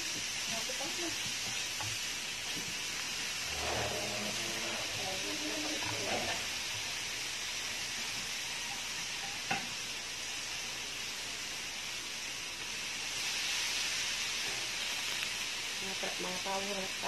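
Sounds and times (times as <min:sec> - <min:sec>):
chicken sizzling on grill pan: 0:00.0 - 0:17.0.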